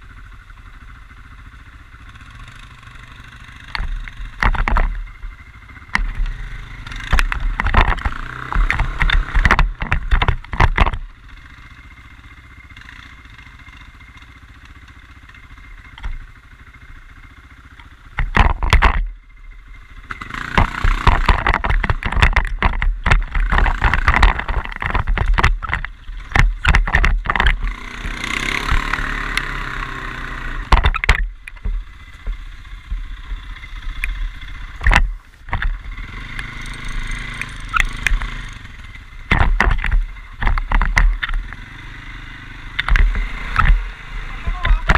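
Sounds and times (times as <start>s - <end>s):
quad bike engine revving: 0.0s - 44.9s.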